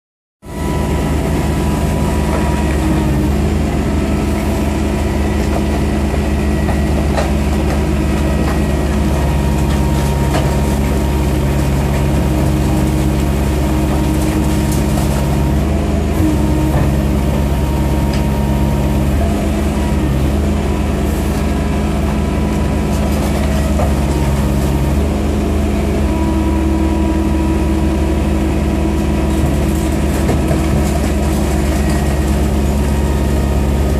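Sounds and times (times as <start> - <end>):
heavy engine drone: 0.4 - 33.9.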